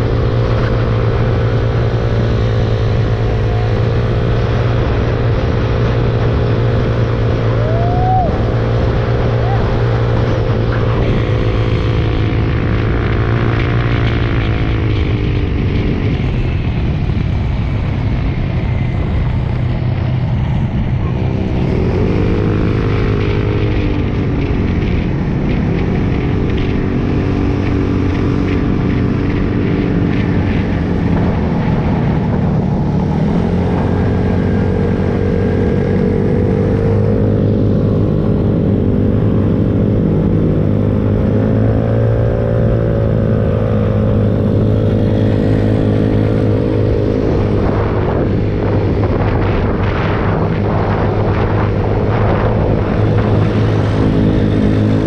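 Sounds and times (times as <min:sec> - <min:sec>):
mini bike engines running: 0:00.0 - 0:55.0.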